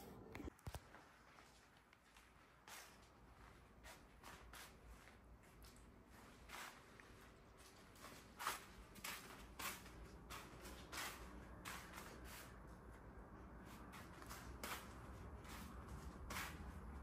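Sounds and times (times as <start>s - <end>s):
footsteps in a house: 0.4s - 17.0s.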